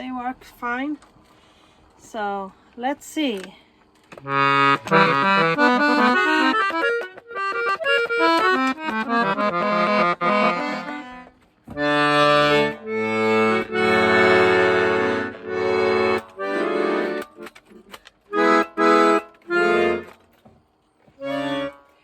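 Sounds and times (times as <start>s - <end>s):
accordion playing: 4.1s - 22.0s.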